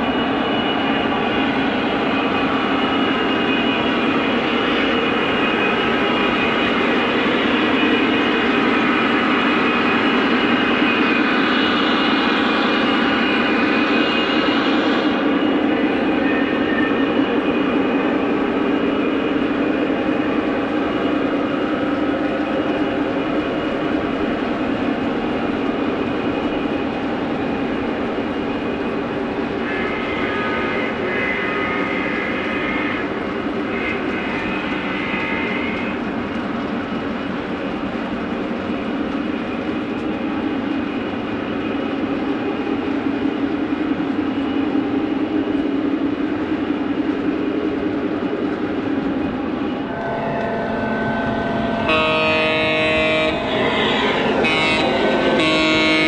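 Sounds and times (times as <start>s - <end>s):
model locomotive approaching: 0.0s - 56.0s.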